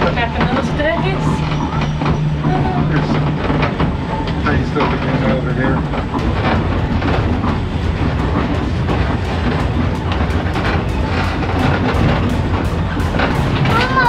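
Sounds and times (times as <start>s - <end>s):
trolley car rumbling: 0.0s - 14.0s
wheels clicking on rails: 0.0s - 14.0s.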